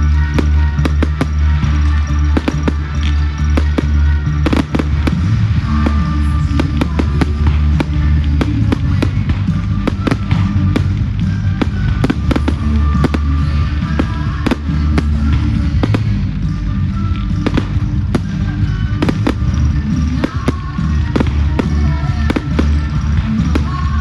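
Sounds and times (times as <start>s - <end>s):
fireworks bangs and cracks: 0.0s - 24.0s
music playing: 0.0s - 24.0s.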